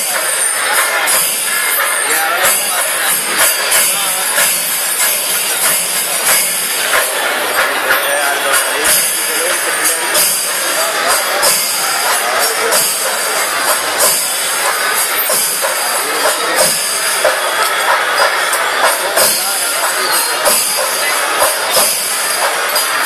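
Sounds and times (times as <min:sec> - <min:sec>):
drums beating: 0:00.0 - 0:23.0
hand cymbals clashing: 0:00.0 - 0:23.0.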